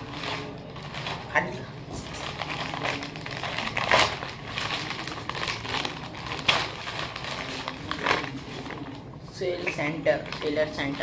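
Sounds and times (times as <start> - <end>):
plastic packet tearing and crinkling: 0.0 - 8.9, 9.6 - 11.0.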